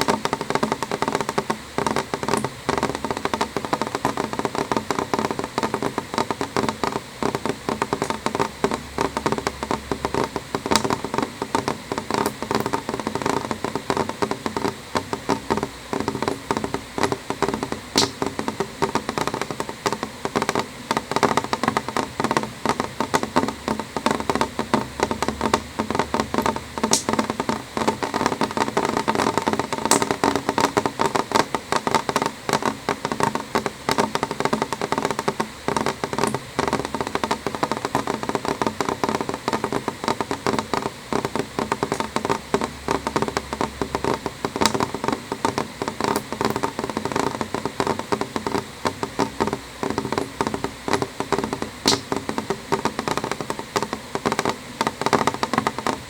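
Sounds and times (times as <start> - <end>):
rain ticking on window glass: 0.0 - 56.0.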